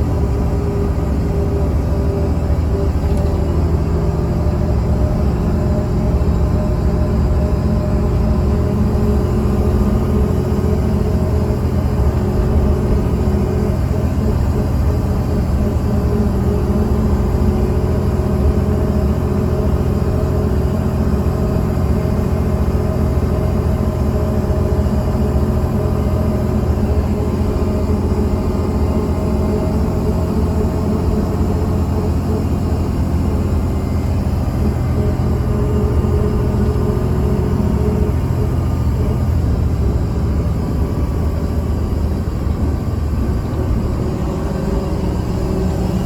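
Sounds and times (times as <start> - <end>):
bus diesel engine rumbling: 0.0 - 46.0.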